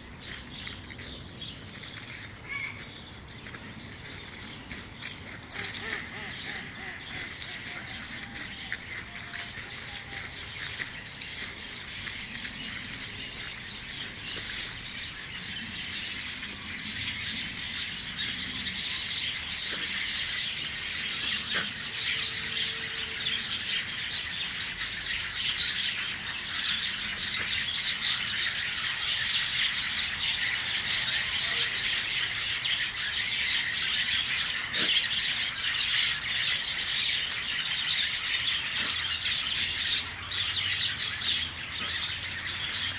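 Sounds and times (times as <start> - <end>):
budgerigars chattering: 0.2 - 42.9.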